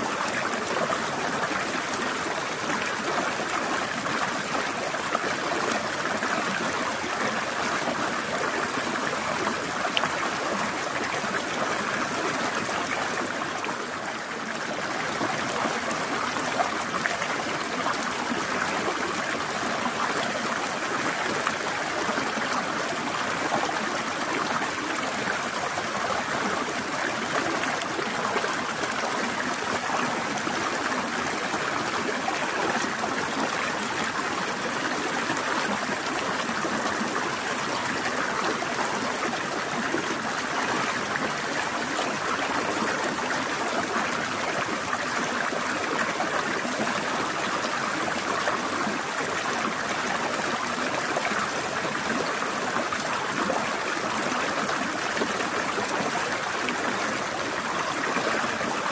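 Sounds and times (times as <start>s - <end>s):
stream trickling: 0.0s - 58.9s.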